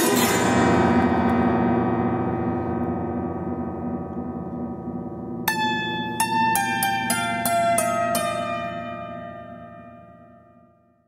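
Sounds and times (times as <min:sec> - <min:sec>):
plucked zither notes: 0:00.0 - 0:10.7.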